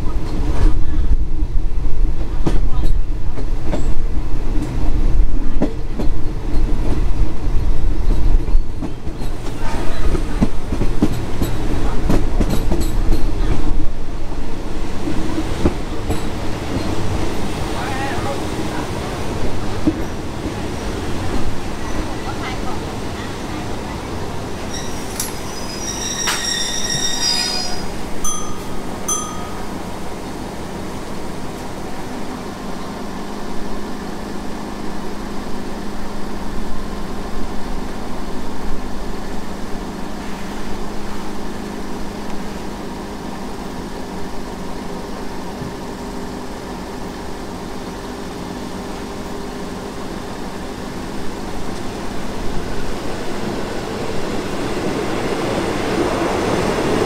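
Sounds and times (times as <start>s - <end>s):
approaching diesel railcar: 0.0s - 57.0s.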